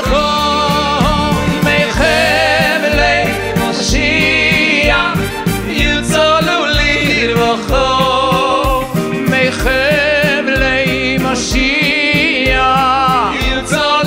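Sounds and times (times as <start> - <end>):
band with steady beat: 0.0 - 14.0.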